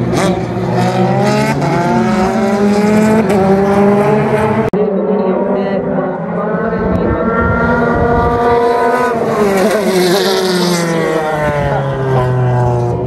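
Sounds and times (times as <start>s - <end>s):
race car engine passing: 0.0s - 13.0s.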